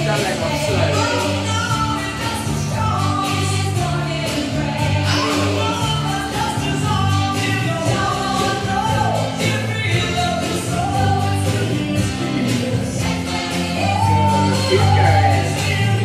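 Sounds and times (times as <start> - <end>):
music with singing: 0.0 - 16.0.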